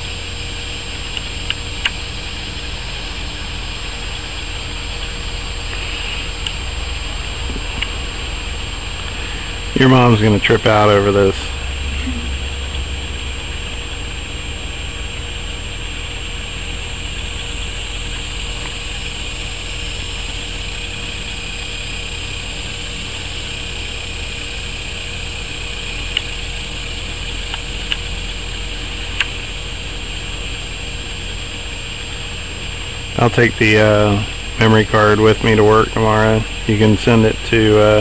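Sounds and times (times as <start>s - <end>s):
high hiss: 0.0s - 38.0s
steady droning hum: 0.0s - 38.0s.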